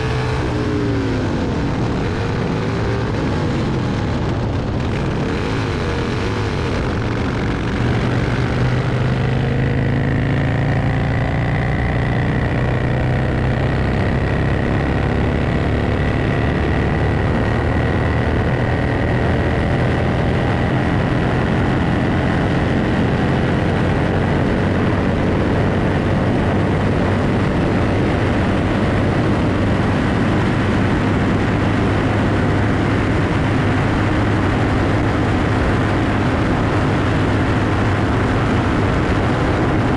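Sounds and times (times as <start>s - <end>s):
motorcycle engine at full throttle: 0.0s - 39.9s.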